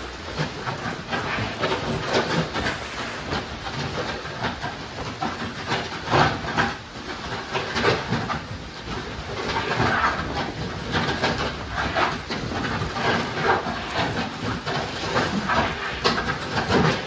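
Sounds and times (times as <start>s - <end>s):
wheelbarrow rattling over metal mesh: 0.0s - 17.0s.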